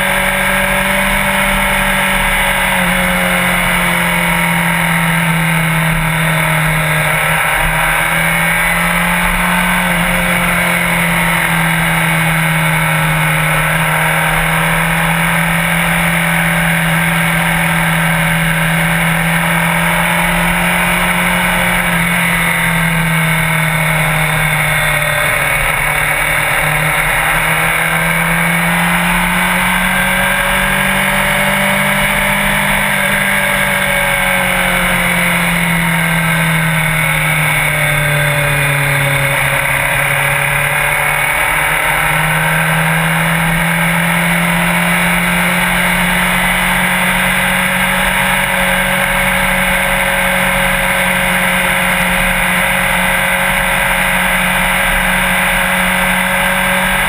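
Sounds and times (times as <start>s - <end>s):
motorbike engine cruising: 0.0s - 57.0s
road and wind noise: 0.0s - 57.0s.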